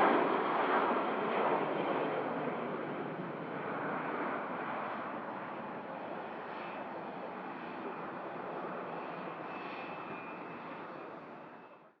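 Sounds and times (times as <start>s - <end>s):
airliner engines rushing: 0.0s - 11.8s.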